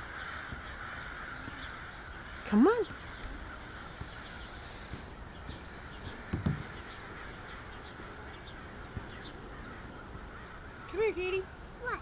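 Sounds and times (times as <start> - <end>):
faint bird chirps: 0.1 - 11.6.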